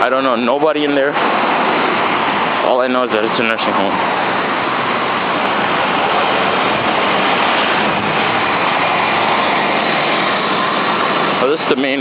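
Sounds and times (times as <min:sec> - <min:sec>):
faint low engine hum: 0:00.0 - 0:12.0
road traffic rushing: 0:00.0 - 0:12.0.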